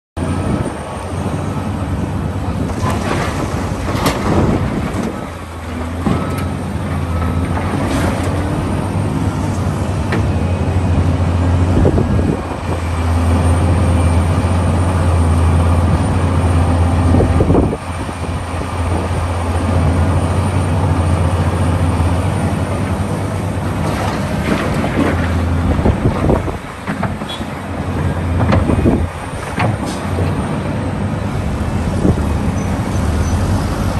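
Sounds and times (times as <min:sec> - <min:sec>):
excavator diesel engine drone: 0:00.2 - 0:33.9
excavator clanks and scrapes: 0:02.4 - 0:16.2, 0:16.8 - 0:33.9.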